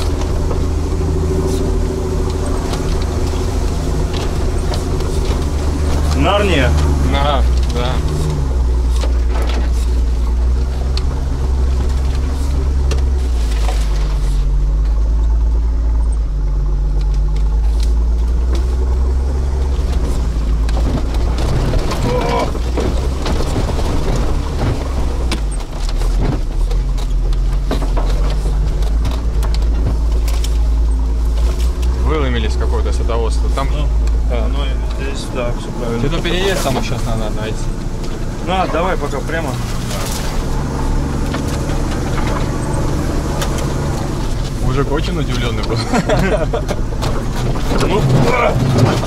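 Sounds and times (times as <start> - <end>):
body and suspension rattles: 0.0 - 49.0
engine drone inside vehicle: 0.0 - 49.0.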